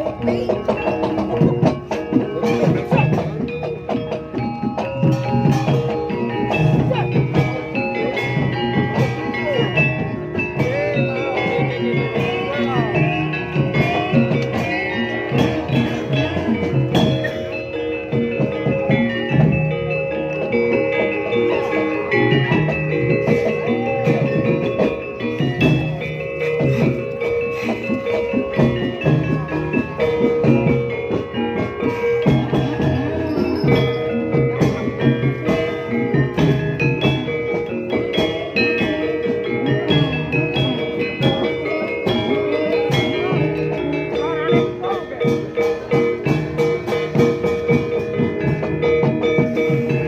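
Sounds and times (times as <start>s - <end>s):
metallophones ringing: 0.0s - 50.0s
steady drum strokes: 0.0s - 50.0s
tuned mallet percussion notes: 0.0s - 50.0s.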